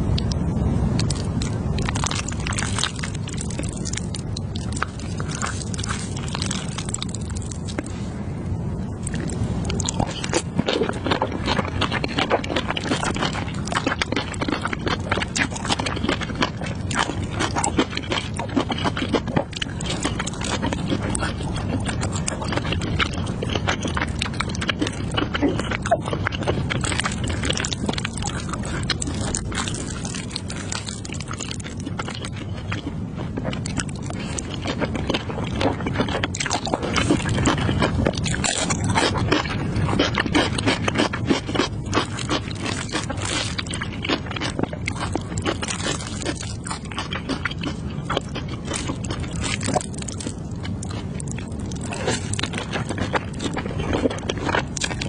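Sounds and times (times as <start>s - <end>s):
close chewing with wet mouth clicks: 1.0s - 8.0s, 9.0s - 55.0s.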